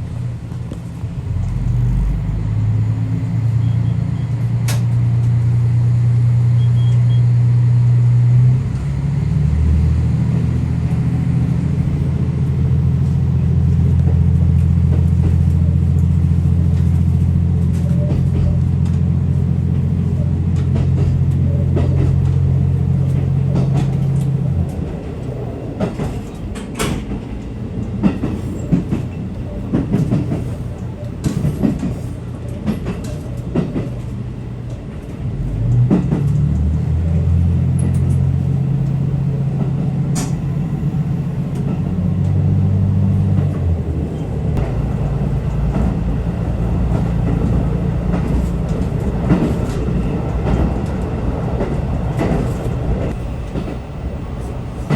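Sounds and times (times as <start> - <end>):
train running hum: 0.0 - 54.9
wheels clattering on rails: 8.4 - 54.9.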